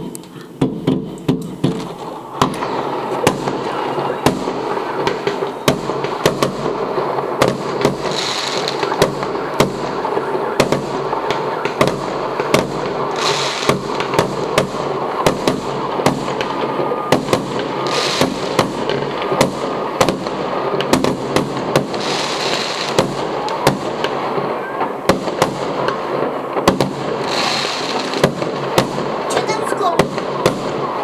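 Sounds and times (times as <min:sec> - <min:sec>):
fireworks bangs and cracks: 0:00.0 - 0:31.0.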